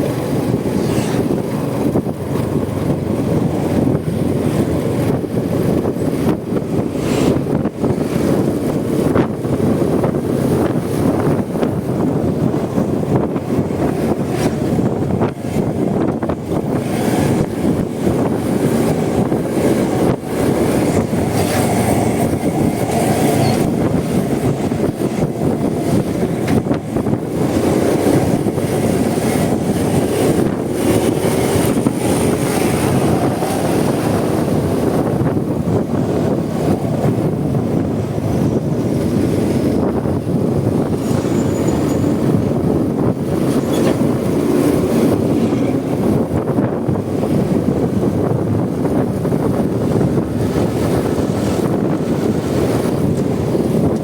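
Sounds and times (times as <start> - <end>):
wind buffeting microphone: 0.0 - 54.0
wind rush and road noise: 0.0 - 54.0.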